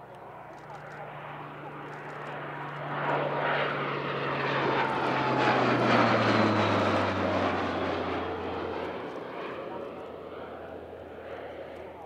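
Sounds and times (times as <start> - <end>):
turboprop plane droning: 0.0 - 12.0.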